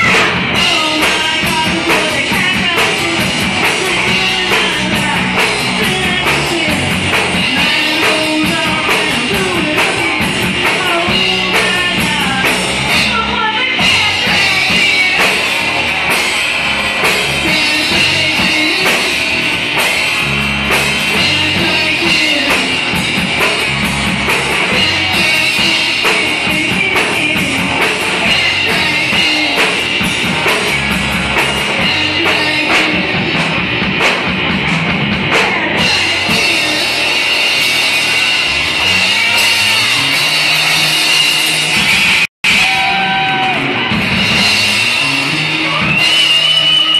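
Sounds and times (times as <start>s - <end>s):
drum kit beat: 0.0s - 46.9s
electric guitar: 0.0s - 46.9s.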